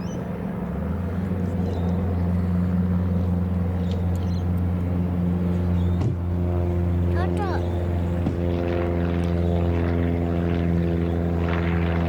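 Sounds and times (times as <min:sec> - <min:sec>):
aircraft piston engine idling: 0:00.0 - 0:12.0.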